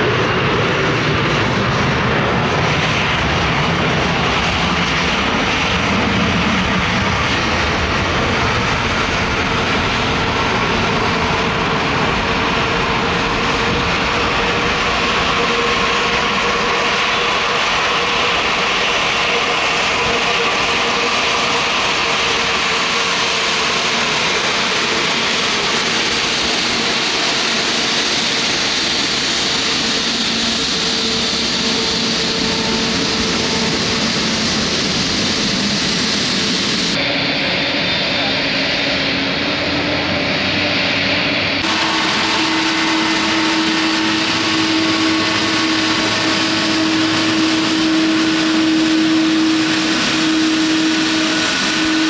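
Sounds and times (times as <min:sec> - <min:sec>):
jet engines running with whine: 0:00.0 - 0:52.0.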